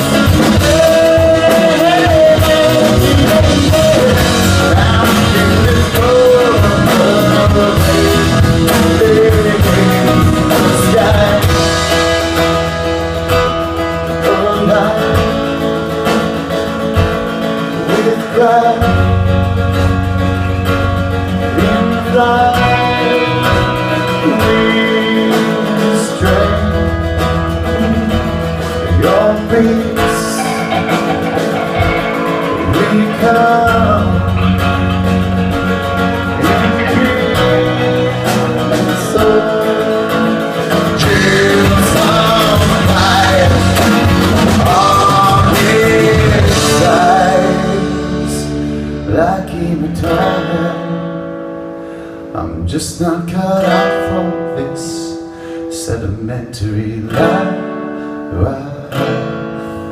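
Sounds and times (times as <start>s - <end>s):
bass line: 0.0s - 51.3s
band playing guitar-led song: 0.0s - 59.9s.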